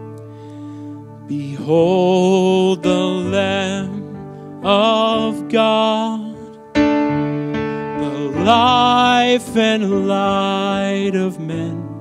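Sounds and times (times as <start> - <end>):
electric piano: 0.0 - 12.0
person singing with vibrato: 1.2 - 6.7, 7.7 - 12.0.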